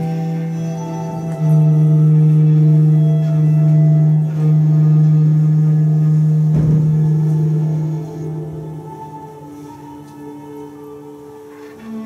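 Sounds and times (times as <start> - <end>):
clarinet low note: 0.0 - 12.0
quiet sustained tones: 0.0 - 12.0.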